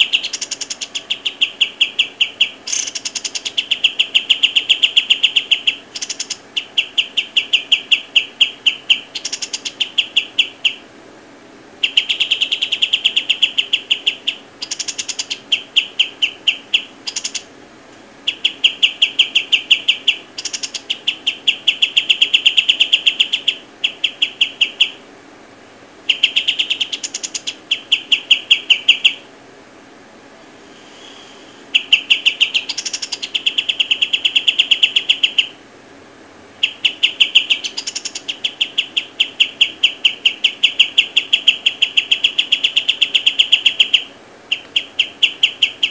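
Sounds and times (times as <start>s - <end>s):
bird chirping rapidly: 0.0s - 10.9s, 11.8s - 25.2s, 25.9s - 29.3s, 30.6s - 35.6s, 36.5s - 45.9s.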